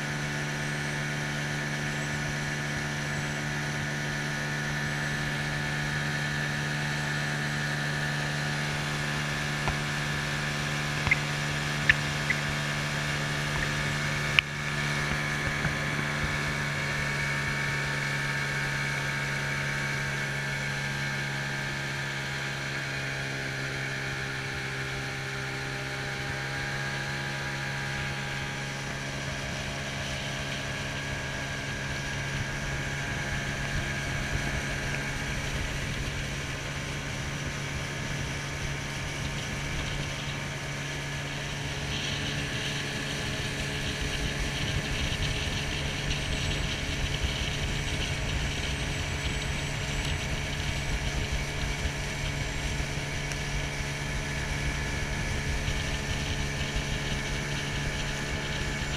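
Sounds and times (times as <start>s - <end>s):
wind rumbling on microphone: 0.0s - 19.9s, 27.1s - 58.9s.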